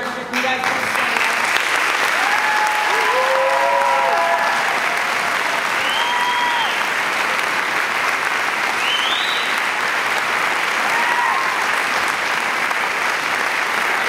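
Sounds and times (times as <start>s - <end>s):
audience applauding: 0.0s - 14.0s
cheers calling out: 1.9s - 14.0s.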